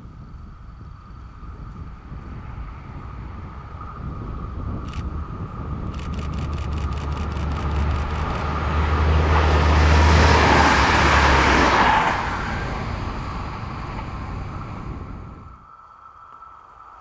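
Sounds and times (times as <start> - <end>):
diesel train engine hum: 0.0 - 15.7.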